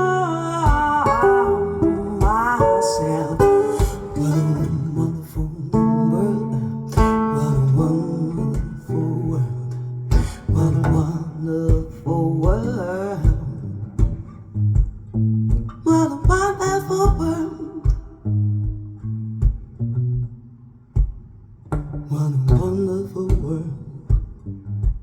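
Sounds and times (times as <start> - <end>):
low bass notes: 0.0 - 25.0
plucked guitar with bent notes: 0.0 - 25.0.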